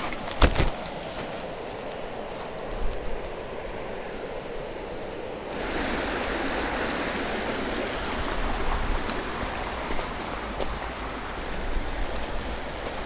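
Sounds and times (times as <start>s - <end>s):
river water over rapids: 0.0s - 13.0s.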